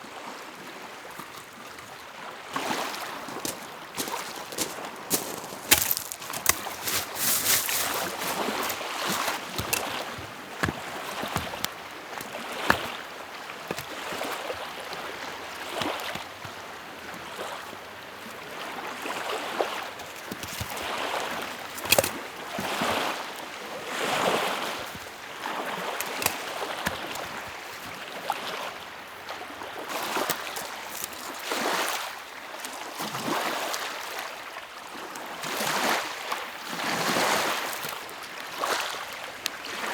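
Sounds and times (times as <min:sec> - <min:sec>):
waves lapping against shore: 0:00.0 - 0:39.9.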